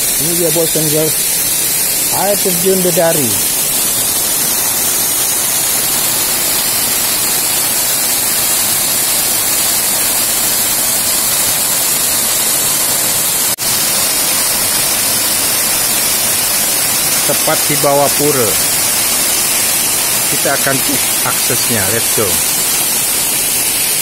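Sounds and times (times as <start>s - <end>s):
waterfall pouring: 0.0s - 24.0s.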